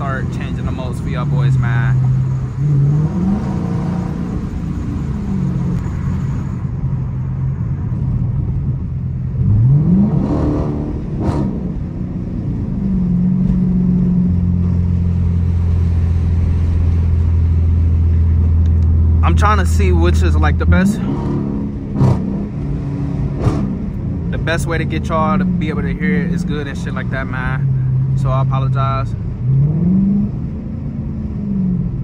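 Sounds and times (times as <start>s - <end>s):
car engine accelerating: 0.0s - 32.0s
road noise: 0.0s - 32.0s.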